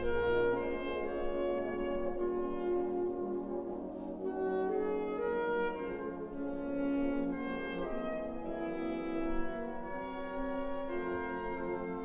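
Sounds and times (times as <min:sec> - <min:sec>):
wind band playing held chords: 0:00.0 - 0:12.0.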